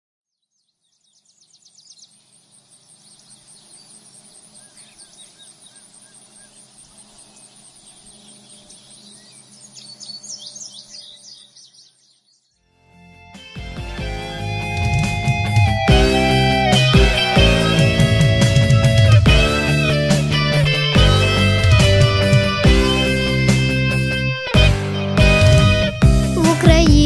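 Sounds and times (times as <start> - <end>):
birds chirping: 0.3 - 12.6, 13.6 - 27.0.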